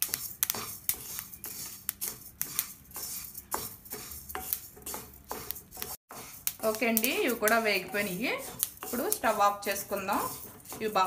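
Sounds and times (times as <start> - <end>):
seeds crackling and popping in pan: 0.0 - 11.0
wooden spatula scraping pan: 0.0 - 11.0.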